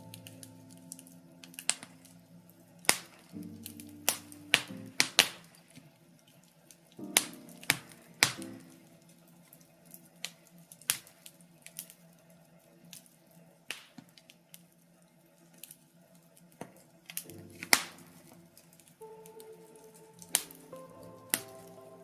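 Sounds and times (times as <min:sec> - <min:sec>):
logs crackling in a fireplace: 0:00.0 - 0:22.0.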